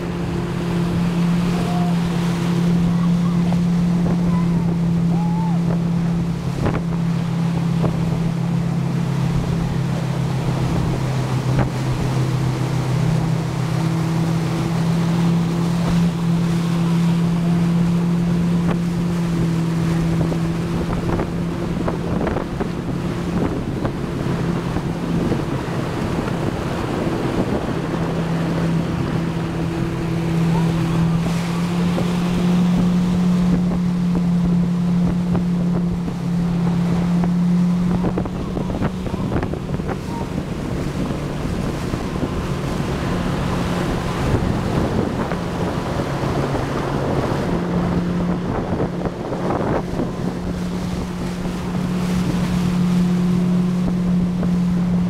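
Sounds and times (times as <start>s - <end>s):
motorboat engine drone: 0.0s - 55.0s
water rushing in wake: 0.0s - 55.0s
wind buffeting microphone: 0.0s - 55.0s.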